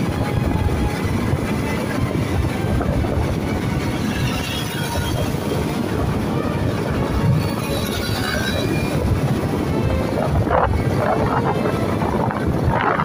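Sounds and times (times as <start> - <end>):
motorbike road noise: 0.0 - 13.0
wind rushing: 0.0 - 13.0.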